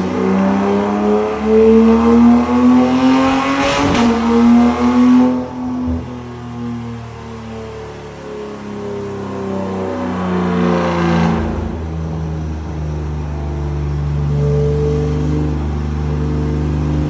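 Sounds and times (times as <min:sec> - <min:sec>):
car engine running loud: 0:00.0 - 0:17.0.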